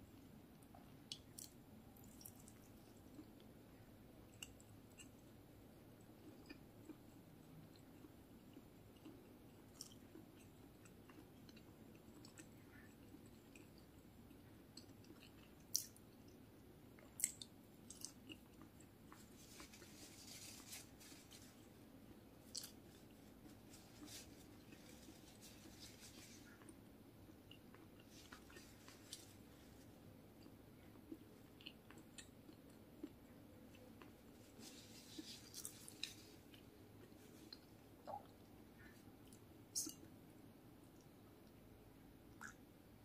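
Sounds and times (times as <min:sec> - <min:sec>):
chewing crisp fritter: 0:00.2 - 0:40.2.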